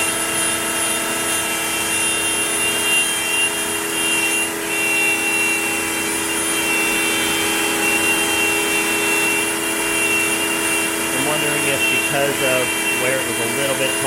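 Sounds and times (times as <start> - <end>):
router spindle carving wood: 0.0 - 14.0.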